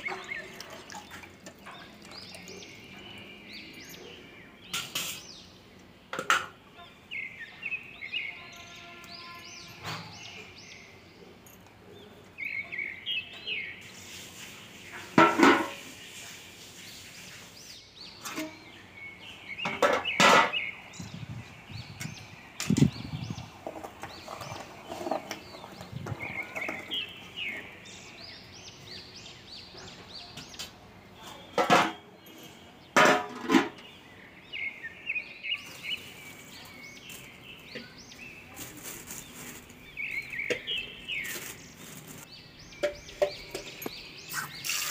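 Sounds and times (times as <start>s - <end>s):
birds chirping: 0.0s - 33.0s, 33.6s - 44.9s.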